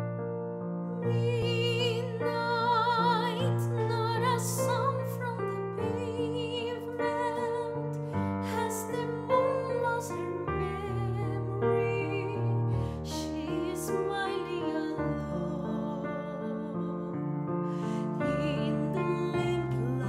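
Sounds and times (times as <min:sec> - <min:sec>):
piano accompaniment: 0:00.0 - 0:20.0
woman singing operatic ballad: 0:00.8 - 0:20.0.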